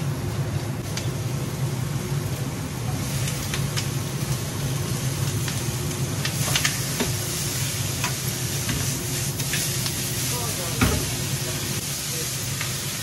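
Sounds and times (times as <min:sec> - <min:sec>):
beef sizzling in a frying pan: 0:00.8 - 0:13.0.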